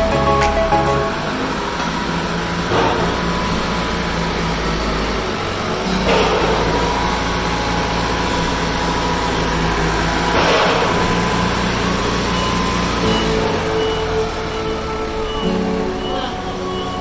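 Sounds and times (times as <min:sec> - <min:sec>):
forklift engine humming: 0:00.0 - 0:17.0.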